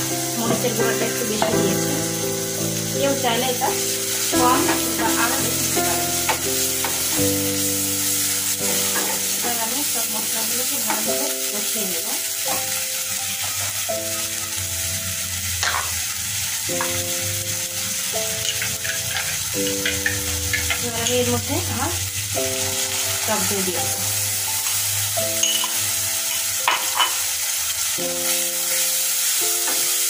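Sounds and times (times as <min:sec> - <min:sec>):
background music of held notes: 0:00.0 - 0:15.6, 0:16.6 - 0:30.0
onions sizzling in hot oil: 0:00.0 - 0:30.0.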